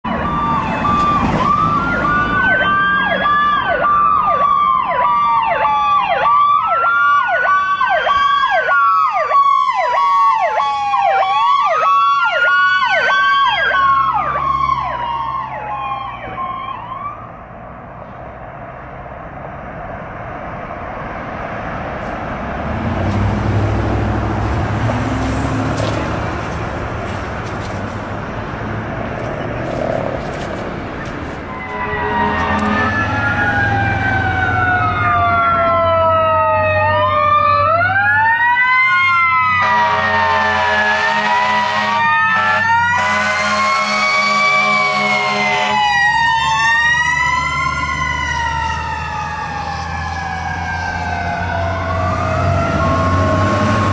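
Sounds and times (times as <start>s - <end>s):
emergency vehicle sirens wailing: 0.0s - 53.9s
vehicle engine and tyre rumble: 0.0s - 53.9s.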